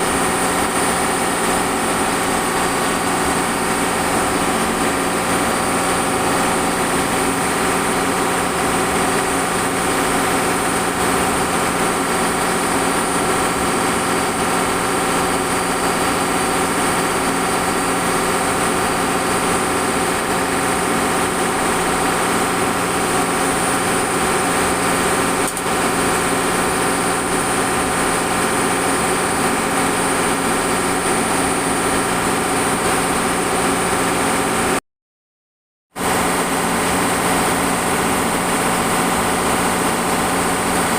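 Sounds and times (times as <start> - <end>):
boat machinery droning: 0.0 - 34.8, 36.0 - 40.9.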